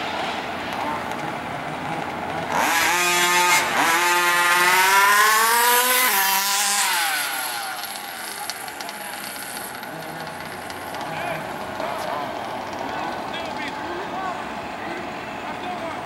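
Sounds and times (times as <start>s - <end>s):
two-stroke engine accelerating: 0.8s - 14.4s.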